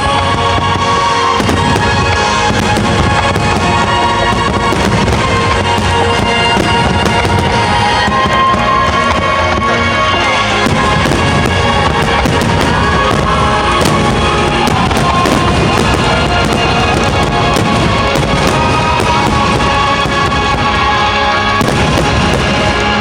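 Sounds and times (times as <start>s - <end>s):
fireworks bursting: 0.0s - 23.0s
music playing: 0.0s - 23.0s
sharp crackles: 0.0s - 23.0s.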